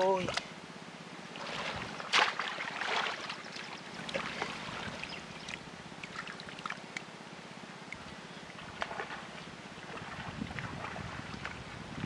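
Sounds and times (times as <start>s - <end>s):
muddy water splashing: 1.3s - 7.0s, 8.0s - 12.0s.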